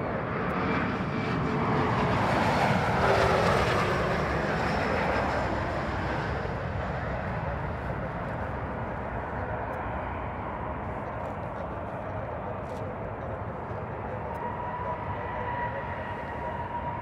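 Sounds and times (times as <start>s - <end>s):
airliner engine rushing: 0.0s - 17.0s.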